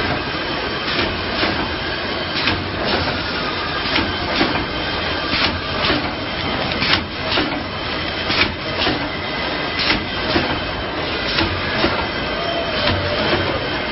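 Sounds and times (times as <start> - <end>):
machine whirring and hissing: 0.0 - 13.9
sharp machine clacks: 0.0 - 13.9.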